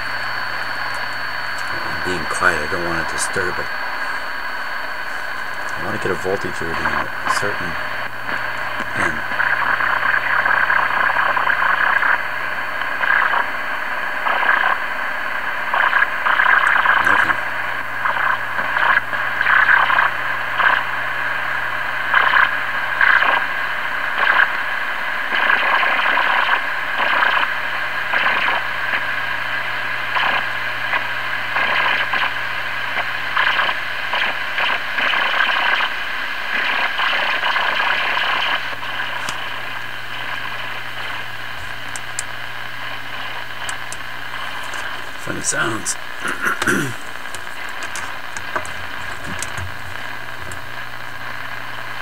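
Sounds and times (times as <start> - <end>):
radio crackling bursts: 0.0 - 52.0
radio static hiss: 0.0 - 52.0.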